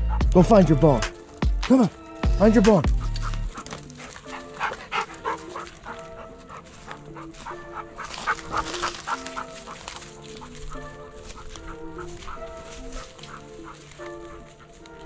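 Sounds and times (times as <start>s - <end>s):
background music melody: 0.0s - 15.0s.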